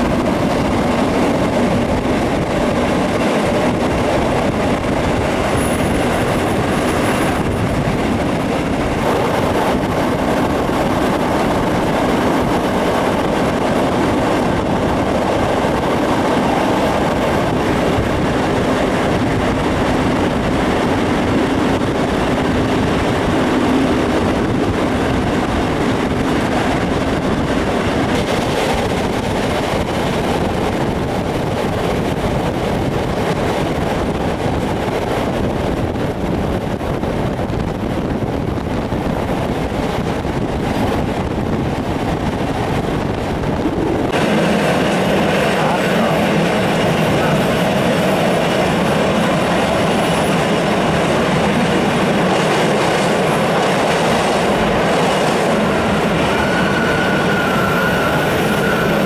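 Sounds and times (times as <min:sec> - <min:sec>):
steam locomotive working: 0:00.0 - 0:59.0
train wheels on rails: 0:00.0 - 0:59.0.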